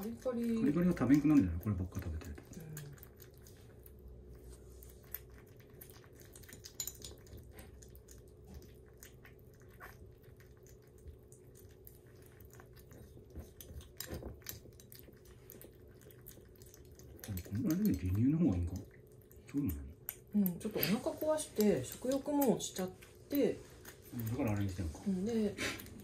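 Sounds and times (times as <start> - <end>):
faint steady hum: 0.0 - 26.0
kittens lapping and chewing: 0.0 - 26.0.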